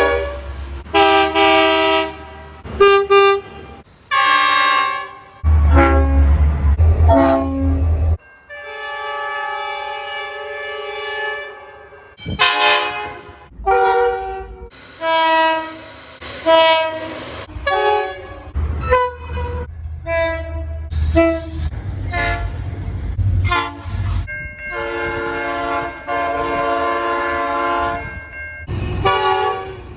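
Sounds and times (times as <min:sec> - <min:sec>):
train horn blasts: 0:00.0 - 0:22.5, 0:23.4 - 0:28.1, 0:29.0 - 0:29.9
low train rumble: 0:00.0 - 0:29.9.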